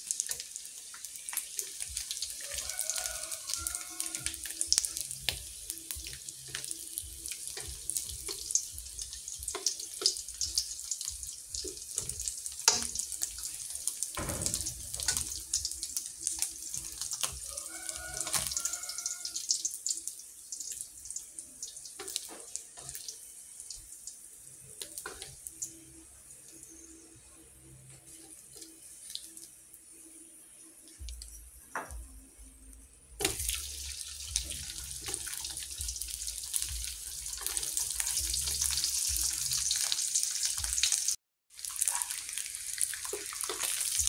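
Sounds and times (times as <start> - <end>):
oil sizzling in a wok: 0.0 - 44.0.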